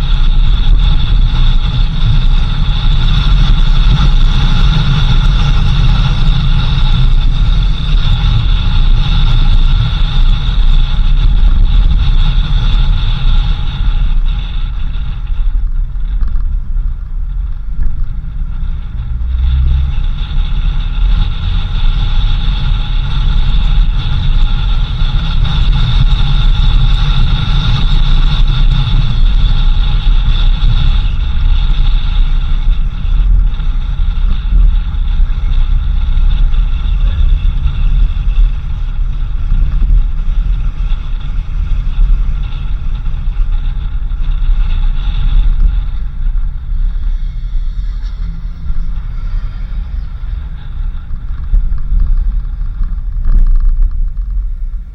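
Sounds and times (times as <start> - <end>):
engine and tyres rumbling: 0.0 - 54.9
high whine: 0.0 - 54.9.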